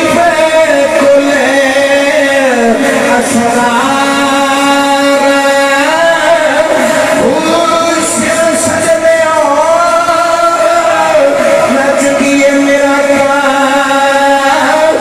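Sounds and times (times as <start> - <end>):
man singing devotional verses: 0.0 - 15.0.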